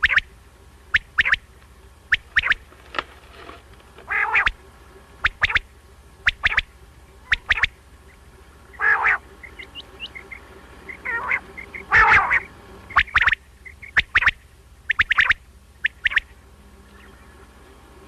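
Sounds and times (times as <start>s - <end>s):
quail calling: 0.0s - 2.8s, 3.9s - 17.8s.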